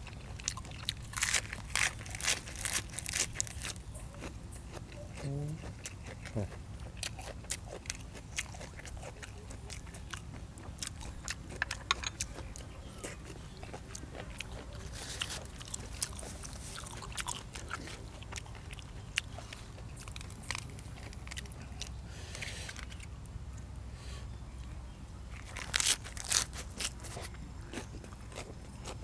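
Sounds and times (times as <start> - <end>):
person chewing and crunching: 0.0 - 23.2, 25.3 - 29.0
steady low hum: 0.0 - 29.0.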